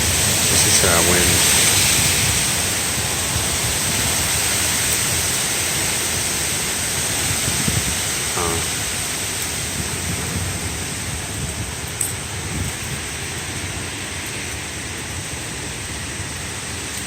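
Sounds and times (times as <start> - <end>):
wind and rain rushing: 0.0 - 17.0
wind buffeting microphone: 0.0 - 17.0.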